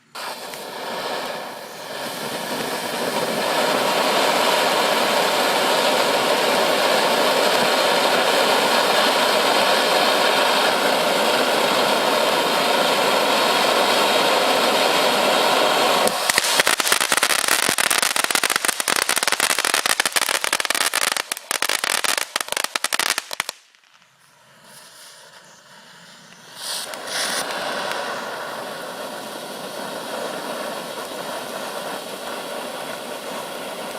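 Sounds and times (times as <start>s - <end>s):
firework fast crackle: 0.0s - 33.9s
firework fountain hissing: 0.0s - 33.9s.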